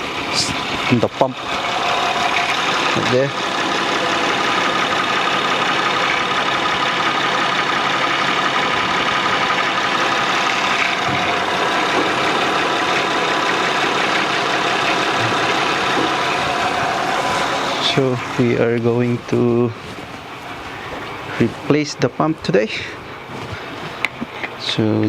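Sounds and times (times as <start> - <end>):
car engine idling: 0.0 - 25.0
steady high whine: 0.0 - 25.0.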